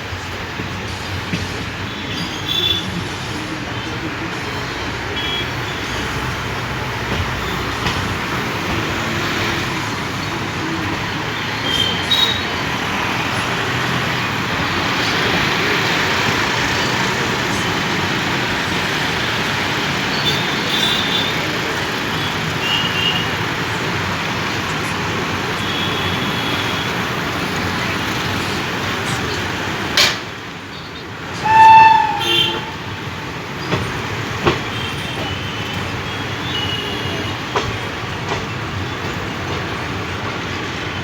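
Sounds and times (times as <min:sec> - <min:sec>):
railway rumble and hiss: 0:00.0 - 0:41.0.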